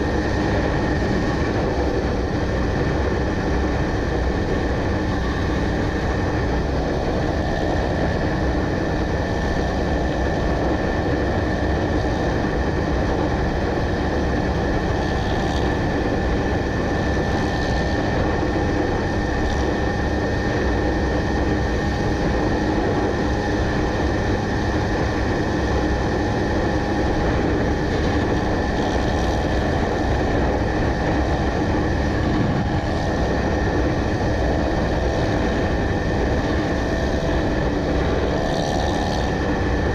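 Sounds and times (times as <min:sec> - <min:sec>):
motorcycle engine hum: 0:00.0 - 0:39.9
wind rumble on microphone: 0:00.0 - 0:39.9.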